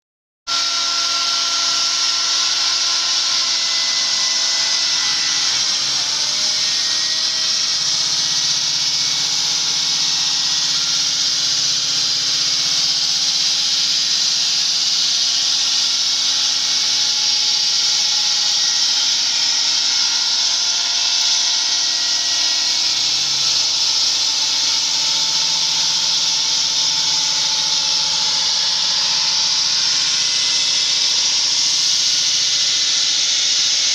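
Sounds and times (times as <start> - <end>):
concrete cutter grinding: 0.5 - 33.9.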